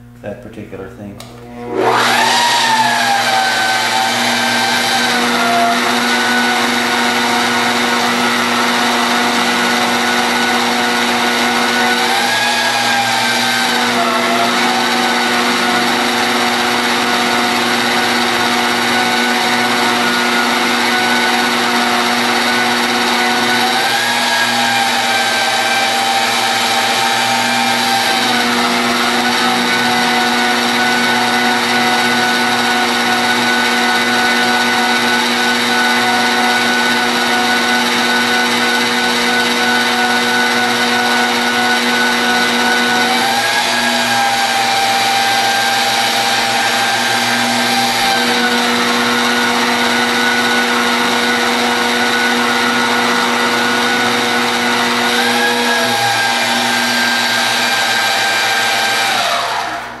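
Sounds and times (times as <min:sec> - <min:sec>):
drill motor whining through steel: 0:01.4 - 1:00.0.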